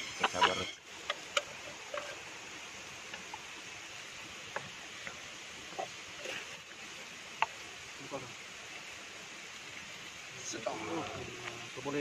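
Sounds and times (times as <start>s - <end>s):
hiss of flowing water: 0.0s - 12.0s.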